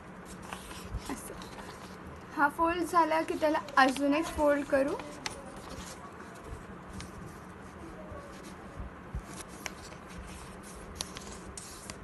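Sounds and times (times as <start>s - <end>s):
faint steady hum: 0.0s - 12.0s
paper rustling and folding: 0.2s - 2.0s, 3.0s - 12.0s.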